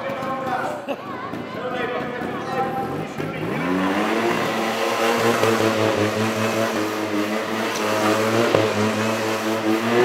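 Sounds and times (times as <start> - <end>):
motorcycle engine running: 1.1 - 10.0.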